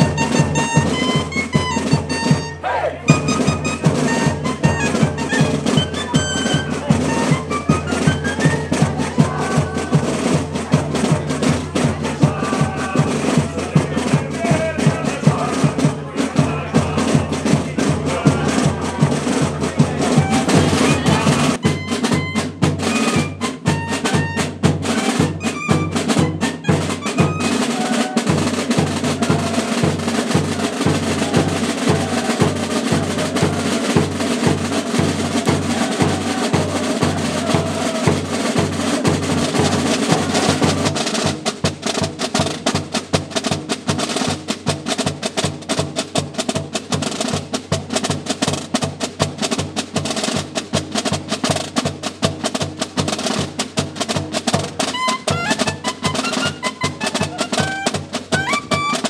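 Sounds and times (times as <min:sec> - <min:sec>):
snare and bass drums beating: 0:00.0 - 0:59.0
street band playing a march: 0:00.0 - 0:59.0.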